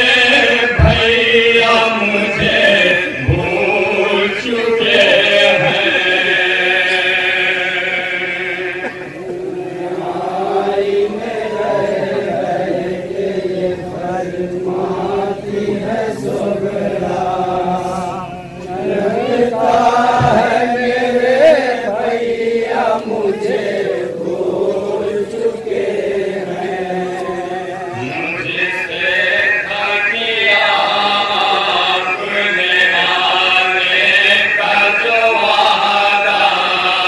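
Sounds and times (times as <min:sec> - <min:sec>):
men chanting in chorus: 0:00.0 - 0:37.0.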